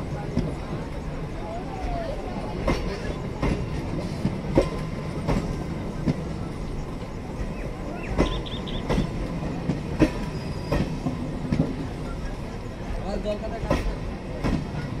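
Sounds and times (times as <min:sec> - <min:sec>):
train coaches rumbling past: 0:00.0 - 0:15.0.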